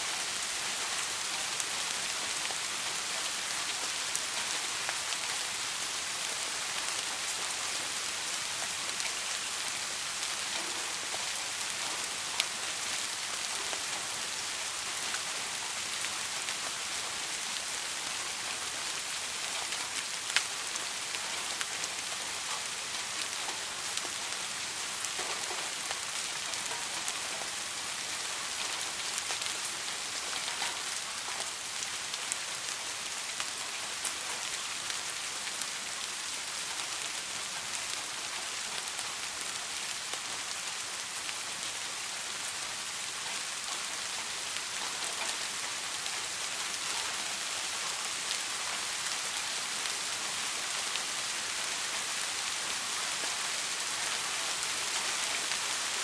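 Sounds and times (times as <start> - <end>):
soft rain hissing: 0.0 - 56.0.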